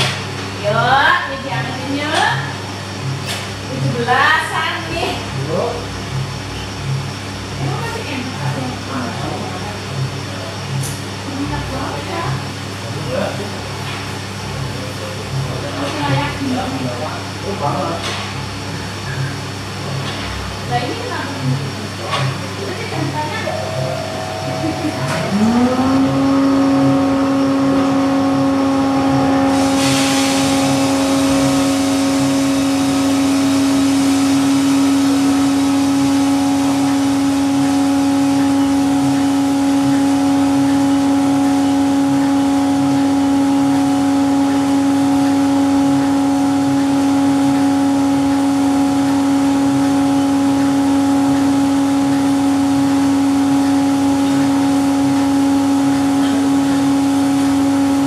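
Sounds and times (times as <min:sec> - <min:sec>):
coffee roaster motor hum: 0:00.0 - 0:58.0.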